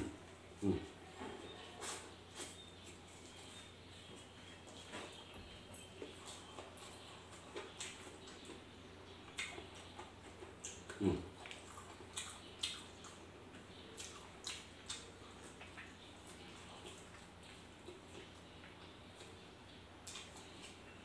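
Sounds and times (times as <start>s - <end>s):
man chewing and smacking: 2.3s - 21.0s.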